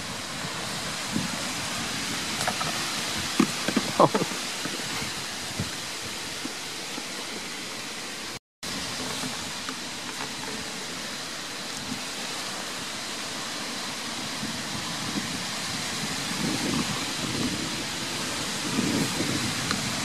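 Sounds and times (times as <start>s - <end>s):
wind on microphone: 0.0s - 7.8s, 11.6s - 20.0s.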